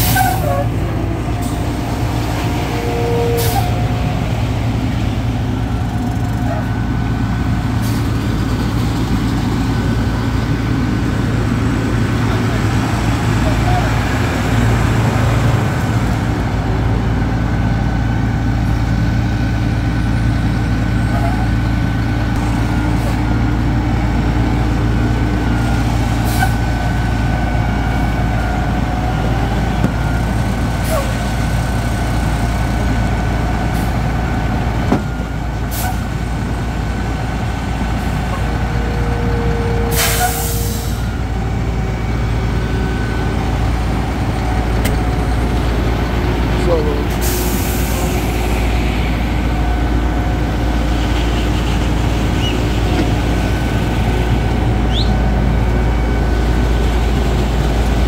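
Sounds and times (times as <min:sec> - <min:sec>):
diesel truck engines rumbling: 0:00.0 - 0:58.0.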